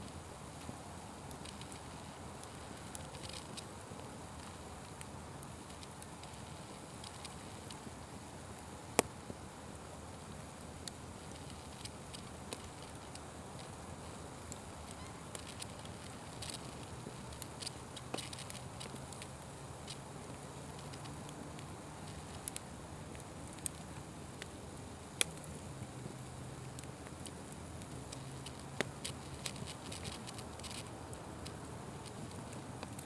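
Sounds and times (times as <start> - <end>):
fire crackles and pops: 0.0 - 33.0
wood fire hissing: 0.0 - 33.0.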